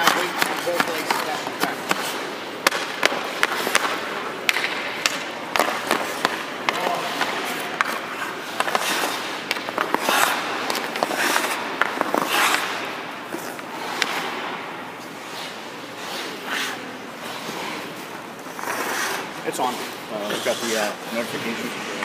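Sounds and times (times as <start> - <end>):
skate blades scraping ice: 0.0 - 21.8.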